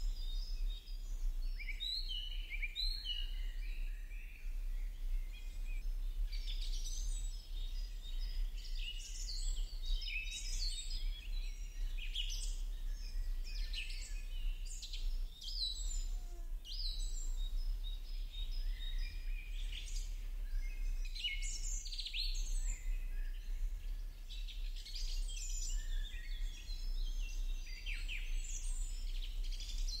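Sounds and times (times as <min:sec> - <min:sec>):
birds chirping and singing: 0:00.1 - 0:30.0.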